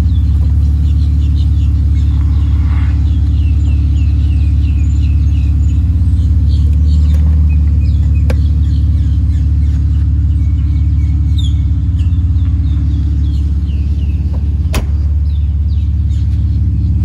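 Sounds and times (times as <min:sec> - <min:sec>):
birds chirping: 0:00.0 - 0:17.0
car engine idling: 0:00.0 - 0:17.0.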